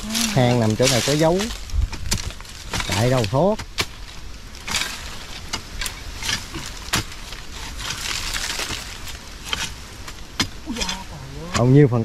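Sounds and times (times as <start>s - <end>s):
dirt and leaves scraping: 0.0s - 12.0s.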